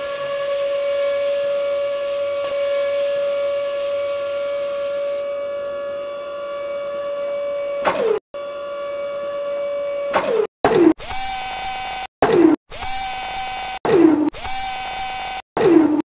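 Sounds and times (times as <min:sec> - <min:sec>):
small motor whining: 0:00.0 - 0:15.5
motor winding down: 0:00.0 - 0:16.0.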